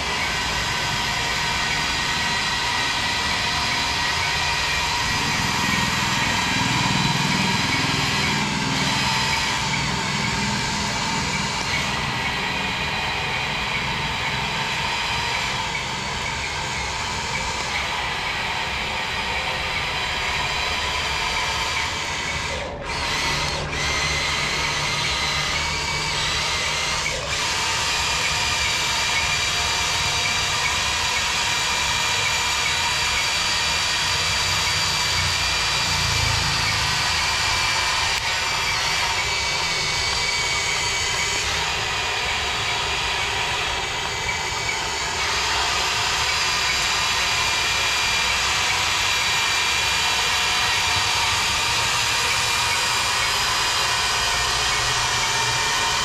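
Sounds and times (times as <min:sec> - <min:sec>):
toy electric motors whining: 0:00.0 - 0:56.0.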